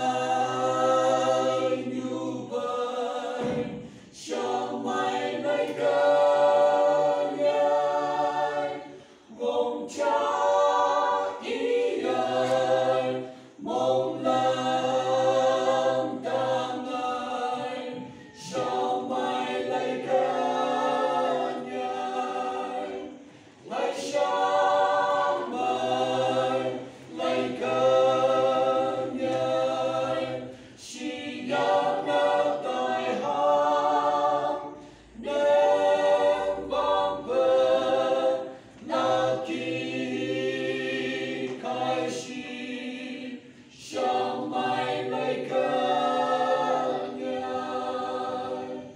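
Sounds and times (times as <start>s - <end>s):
people singing a hymn in harmony: 0.0s - 48.9s.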